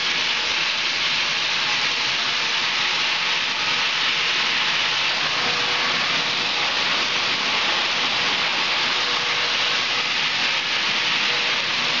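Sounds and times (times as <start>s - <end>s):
processing line hiss: 0.0s - 12.0s.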